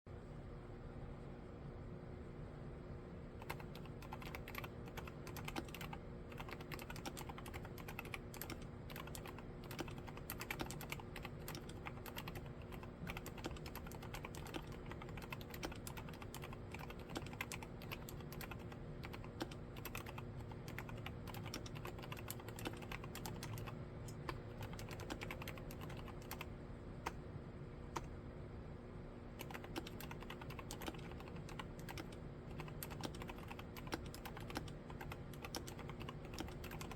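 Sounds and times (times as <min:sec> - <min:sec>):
soft keyboard keystrokes: 0:03.4 - 0:27.2, 0:29.4 - 0:36.9.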